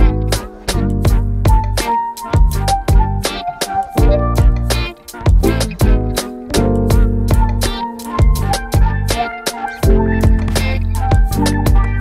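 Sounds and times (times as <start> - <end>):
music with drum beat: 0.0 - 12.0.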